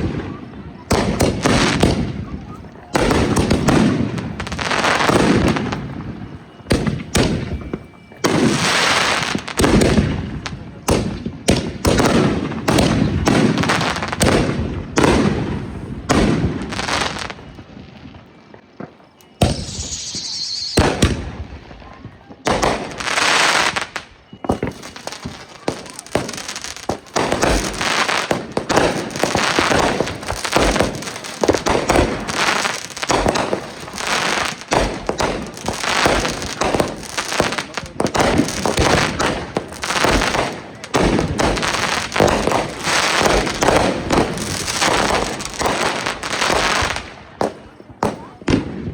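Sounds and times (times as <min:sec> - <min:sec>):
fireworks bangs and crackling pops: 0:00.0 - 0:48.9.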